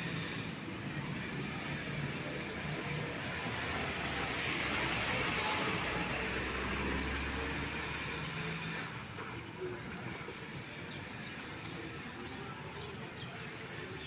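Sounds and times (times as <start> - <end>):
vehicle passing: 0.0 - 12.2
street traffic: 0.0 - 14.0.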